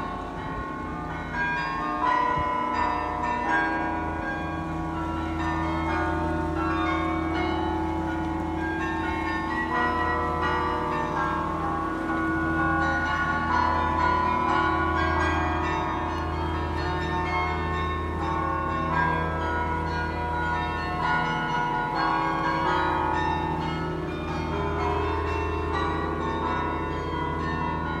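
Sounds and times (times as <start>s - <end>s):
carillon bells melody: 0.0s - 28.0s.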